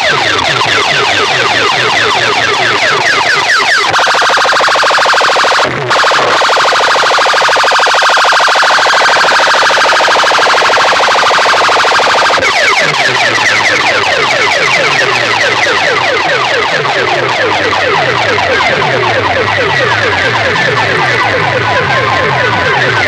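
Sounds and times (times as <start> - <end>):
electronic siren effects: 0.0 - 23.0.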